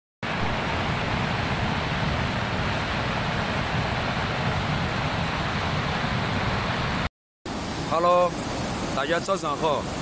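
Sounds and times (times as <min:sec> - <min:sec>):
flood torrent rushing: 0:00.3 - 0:10.0.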